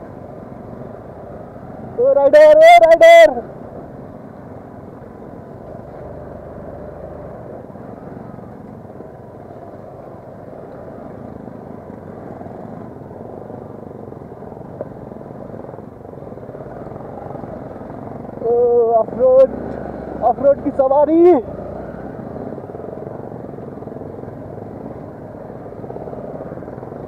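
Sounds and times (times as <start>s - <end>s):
motorcycle engine running: 0.0s - 2.5s, 3.4s - 27.0s
rumble of gravel road: 0.0s - 27.0s.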